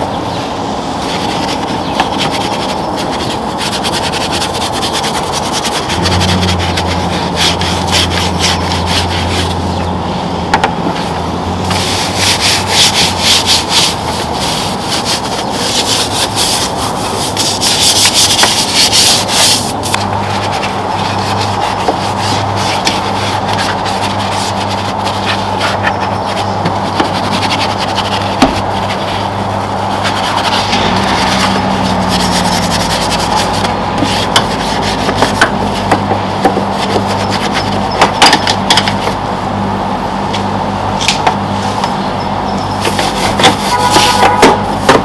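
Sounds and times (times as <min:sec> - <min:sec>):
brushes scrubbing: 0:01.0 - 0:09.7, 0:11.0 - 0:38.2, 0:42.8 - 0:45.0.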